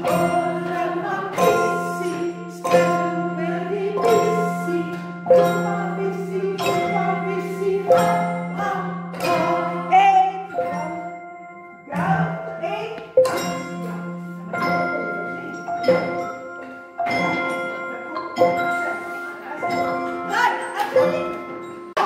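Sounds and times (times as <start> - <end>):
xylophones playing together: 0.0 - 22.0.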